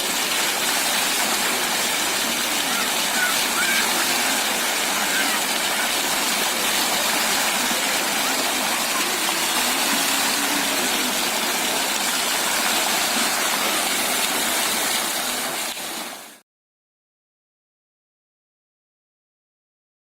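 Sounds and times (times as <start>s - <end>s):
water fountain splashing: 0.0s - 16.4s.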